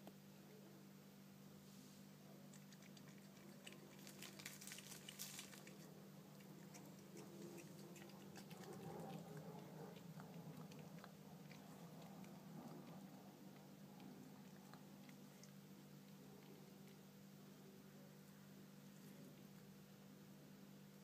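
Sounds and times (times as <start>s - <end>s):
low hum: 0.1s - 21.0s
cat chewing and licking: 2.3s - 20.6s.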